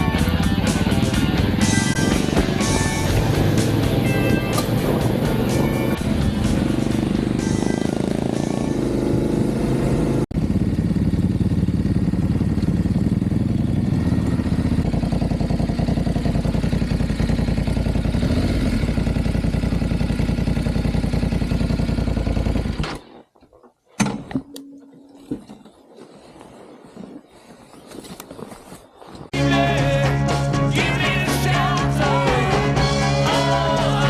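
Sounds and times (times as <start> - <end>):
motorcycle engine running: 0.0 - 23.0, 29.4 - 34.0.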